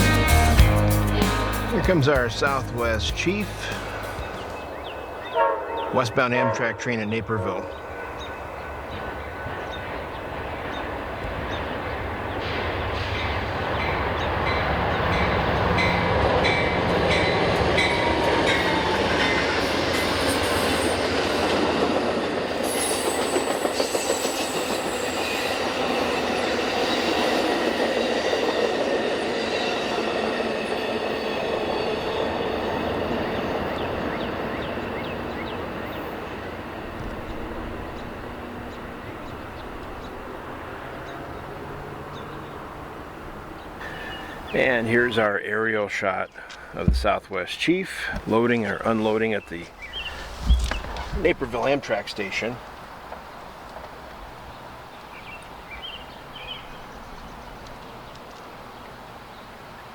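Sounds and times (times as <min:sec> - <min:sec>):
passenger train rolling past: 0:00.0 - 0:45.5, 0:46.7 - 0:59.9.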